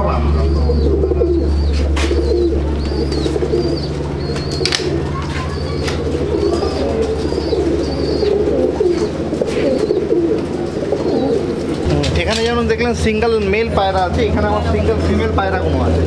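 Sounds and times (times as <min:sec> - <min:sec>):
low hum: 0:00.0 - 0:16.0
pigeons cooing: 0:00.0 - 0:16.0.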